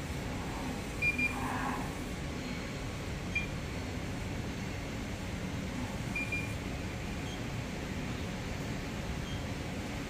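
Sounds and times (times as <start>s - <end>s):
room ventilation: 0.0s - 10.0s.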